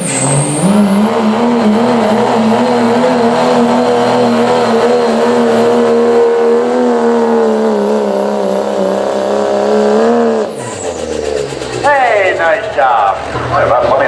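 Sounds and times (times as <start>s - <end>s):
diesel engine at full throttle: 0.0s - 14.0s.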